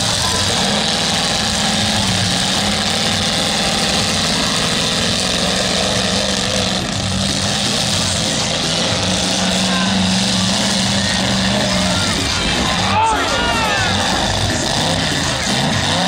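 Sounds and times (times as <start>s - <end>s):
car engines running hard: 0.0s - 16.0s.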